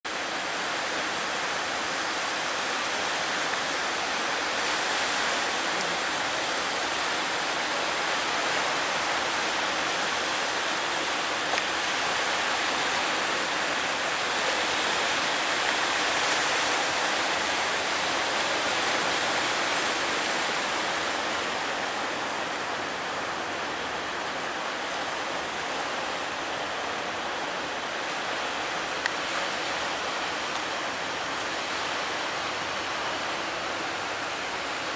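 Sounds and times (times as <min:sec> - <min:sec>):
heavy surf roaring: 0:00.1 - 0:34.9.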